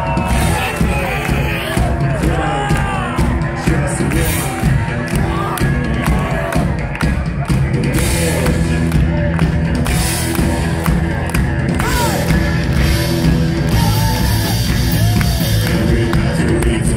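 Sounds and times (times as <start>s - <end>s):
heavy metal band playing live: 0.0s - 16.9s
pounding drums: 0.0s - 16.9s.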